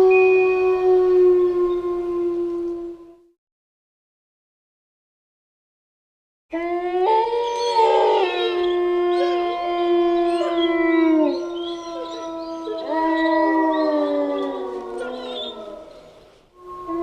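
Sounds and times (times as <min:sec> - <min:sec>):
wolves howling: 0:00.0 - 0:03.3, 0:06.5 - 0:17.0.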